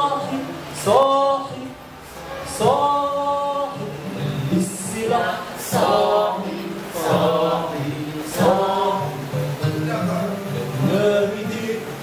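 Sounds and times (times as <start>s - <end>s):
acoustic guitar: 0.0s - 12.0s
man singing into a microphone: 0.0s - 12.0s.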